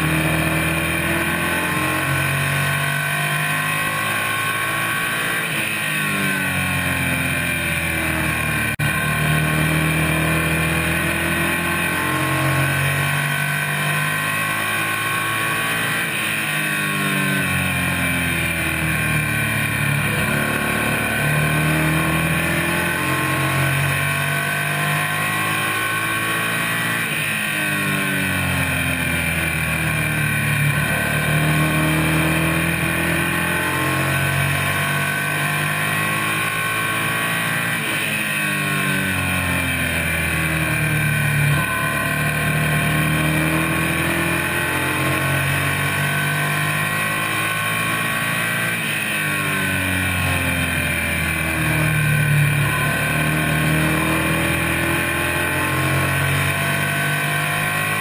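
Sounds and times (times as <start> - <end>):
racing car engine: 0.0 - 58.0.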